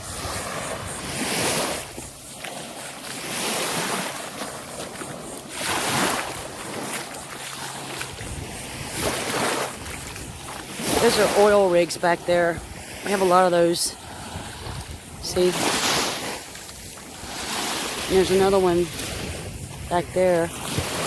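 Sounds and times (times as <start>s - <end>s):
waves breaking on beach: 0.0s - 21.0s
wind on microphone: 0.0s - 21.0s.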